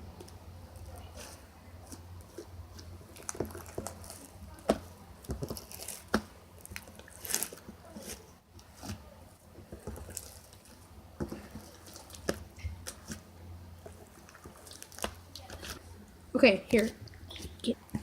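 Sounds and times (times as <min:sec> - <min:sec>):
slime squelching by hand: 0:00.0 - 0:18.0.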